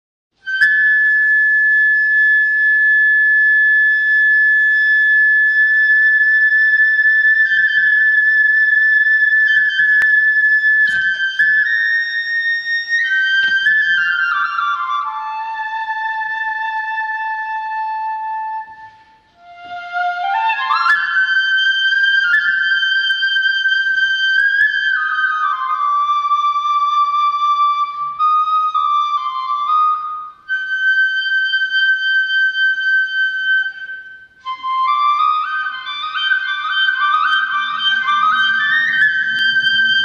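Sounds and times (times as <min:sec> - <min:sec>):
bamboo flute playing: 0:00.3 - 0:40.0.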